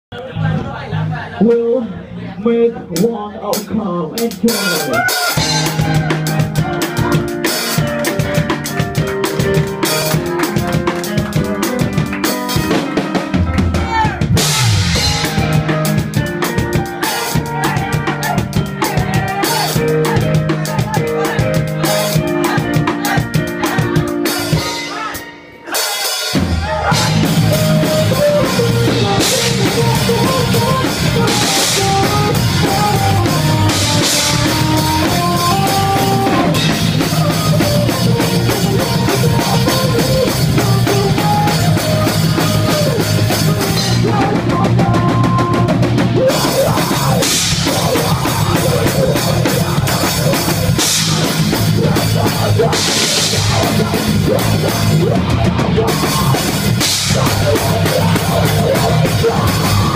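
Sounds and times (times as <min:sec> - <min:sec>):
rock band playing live: 0:03.0 - 0:59.9.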